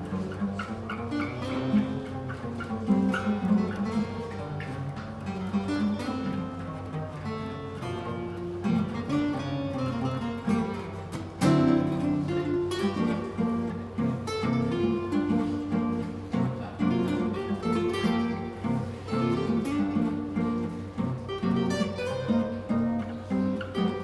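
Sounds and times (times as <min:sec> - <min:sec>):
acoustic guitars playing: 0:00.0 - 0:24.0.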